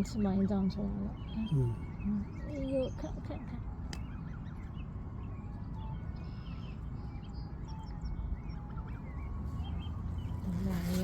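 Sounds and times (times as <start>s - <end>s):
gosling peeping: 0.0s - 11.0s.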